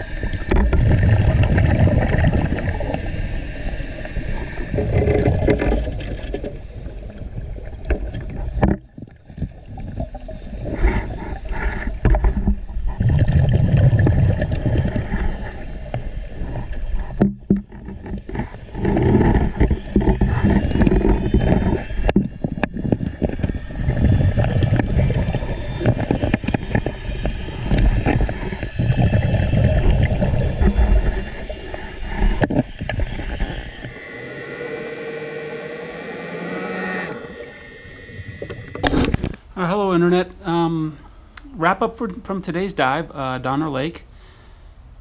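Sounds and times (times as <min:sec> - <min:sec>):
underwater exhaled bubbles gushing: 0:00.0 - 0:39.4.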